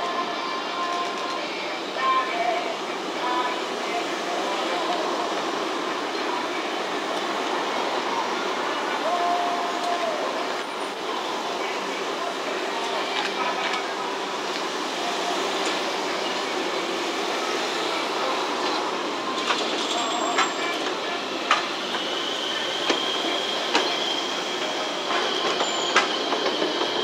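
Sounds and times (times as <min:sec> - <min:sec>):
tram wheels squealing: 0:00.1 - 0:27.0.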